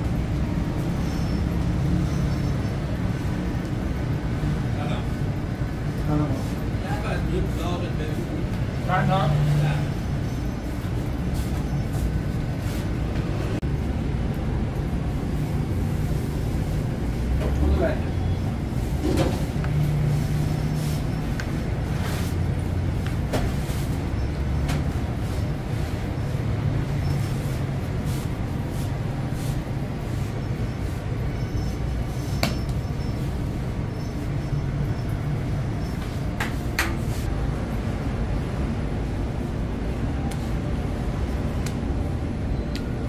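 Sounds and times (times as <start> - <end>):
oven and machinery rumble: 0.0 - 43.0.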